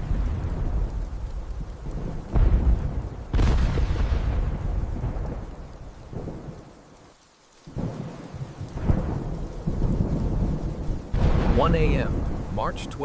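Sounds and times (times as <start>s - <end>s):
low rolling thunder: 0.0s - 6.8s, 7.7s - 13.0s
rain hiss: 0.0s - 13.0s.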